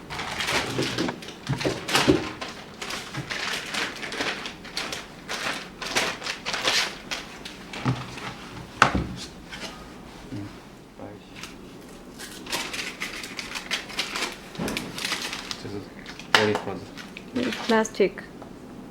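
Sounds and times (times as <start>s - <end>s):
plastic packaging rustling: 0.0s - 10.3s, 11.3s - 18.0s.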